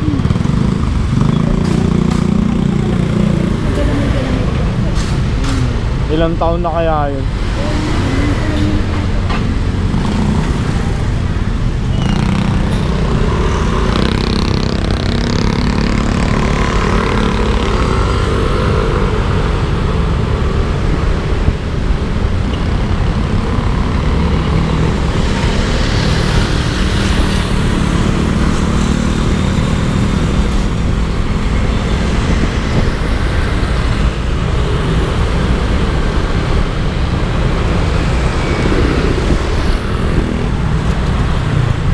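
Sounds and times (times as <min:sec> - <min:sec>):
wind and road noise: 0:00.0 - 0:41.9.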